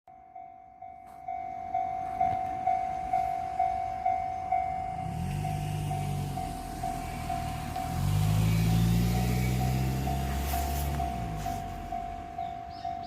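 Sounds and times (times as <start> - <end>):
level crossing warning bell: 0.1 - 13.0.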